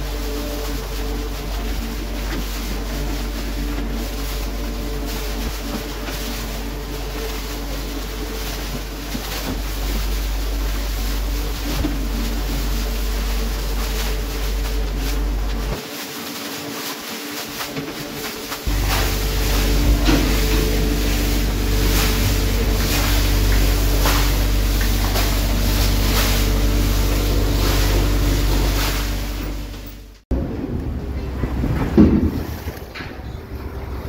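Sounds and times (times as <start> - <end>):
hose spraying water: 0.0 - 30.2
boat engine running: 0.0 - 34.0.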